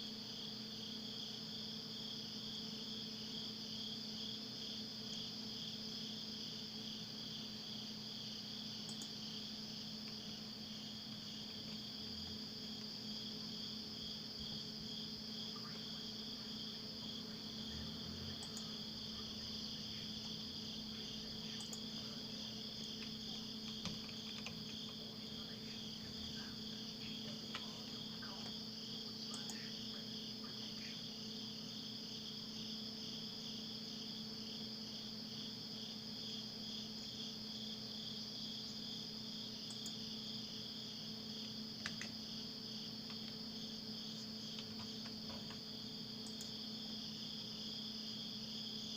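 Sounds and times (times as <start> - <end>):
crickets trilling: 0.0 - 48.9
steady low hum: 0.0 - 48.9.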